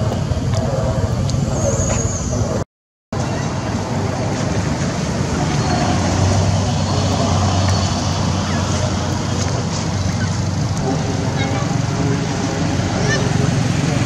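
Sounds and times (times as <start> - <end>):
vehicle engine humming: 0.0 - 2.6, 3.2 - 14.0
road traffic noise: 0.0 - 14.0.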